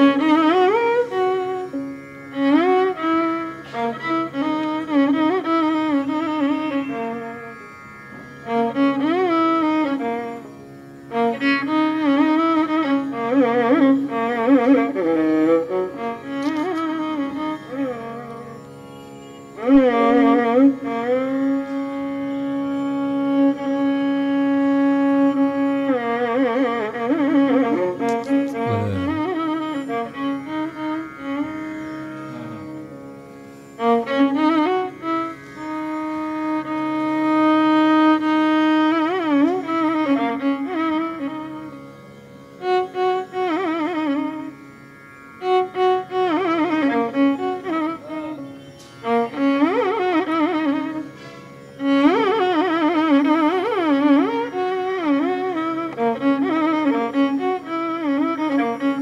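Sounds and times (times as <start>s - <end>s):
instrumental melody: 0.0s - 59.0s.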